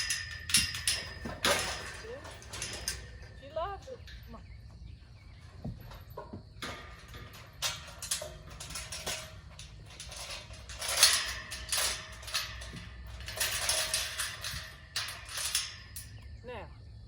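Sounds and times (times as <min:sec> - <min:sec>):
metal gate clanking and rattling: 0:00.0 - 0:17.0.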